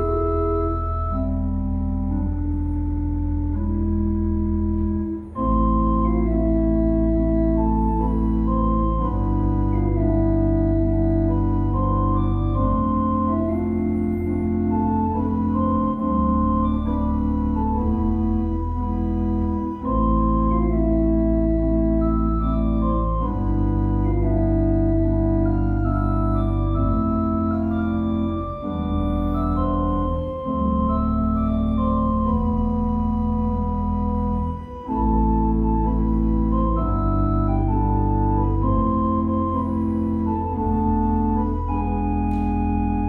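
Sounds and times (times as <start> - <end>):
pipe organ chords: 0.0 - 43.0.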